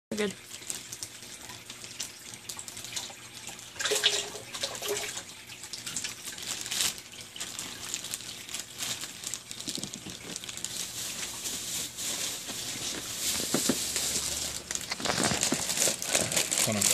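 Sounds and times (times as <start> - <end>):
water splashing into aquarium: 0.2 - 15.0.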